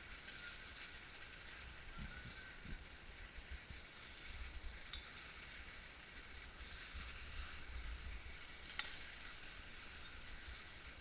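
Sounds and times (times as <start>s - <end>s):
skis hissing over snow: 0.0s - 11.0s.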